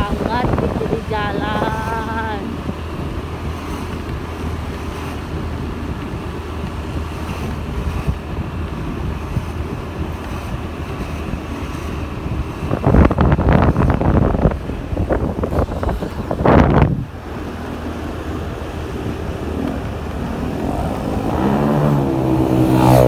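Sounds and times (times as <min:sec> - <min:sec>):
motorbike engine hum: 0:00.0 - 0:23.0
wind rushing over microphone: 0:00.0 - 0:23.0.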